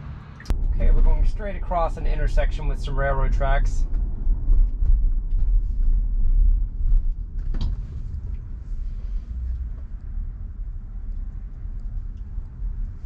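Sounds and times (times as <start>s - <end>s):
tyre and road noise in car: 0.0s - 13.0s.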